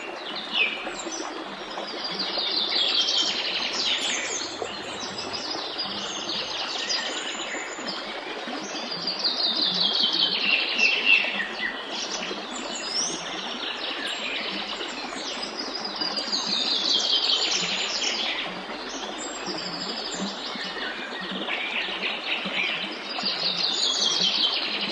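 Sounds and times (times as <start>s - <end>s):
songbirds singing: 0.0s - 24.9s.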